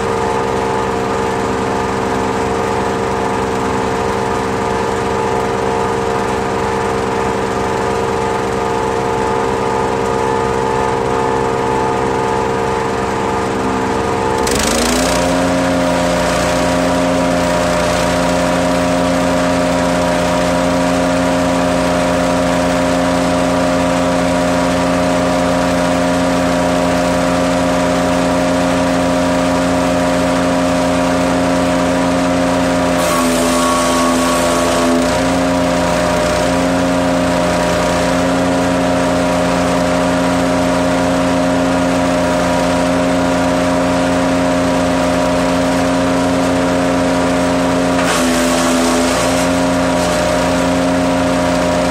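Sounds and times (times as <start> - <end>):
wood chipper engine running: 0.0 - 51.9.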